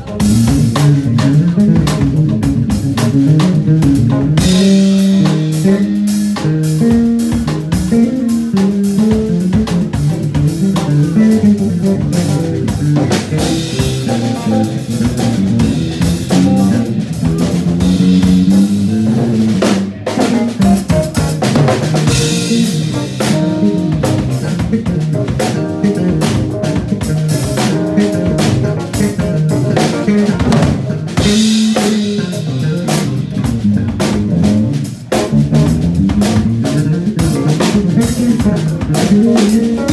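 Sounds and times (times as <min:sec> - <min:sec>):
drum kit groove: 0:00.0 - 0:39.9
electric bass guitar line: 0:00.0 - 0:39.9.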